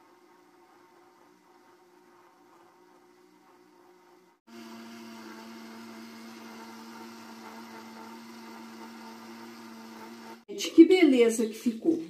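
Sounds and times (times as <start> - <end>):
blender motor whining: 0.2 - 10.5.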